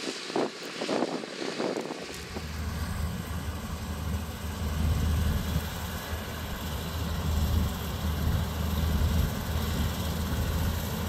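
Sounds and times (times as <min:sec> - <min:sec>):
low diesel rumble of machinery: 0:02.0 - 0:11.0.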